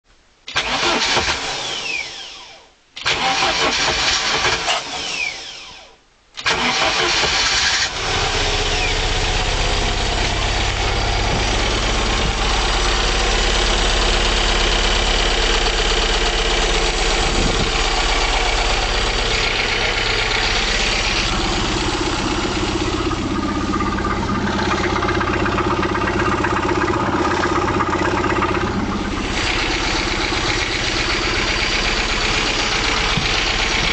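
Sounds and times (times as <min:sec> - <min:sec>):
engine cranking: 0:00.5 - 0:02.4, 0:03.0 - 0:05.8, 0:06.4 - 0:33.9
engine idling: 0:06.4 - 0:33.9.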